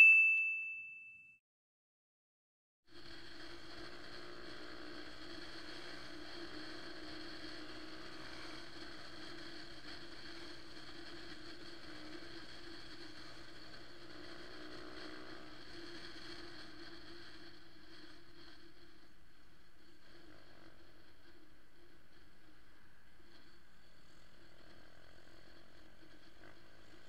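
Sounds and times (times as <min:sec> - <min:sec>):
motorcycle engine hum: 0:03.1 - 0:27.0.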